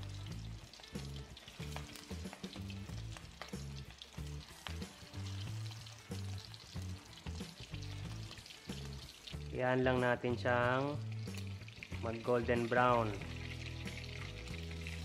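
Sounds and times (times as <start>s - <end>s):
background music with bass: 0.0s - 15.0s
meatballs sizzling in oil: 0.0s - 15.0s.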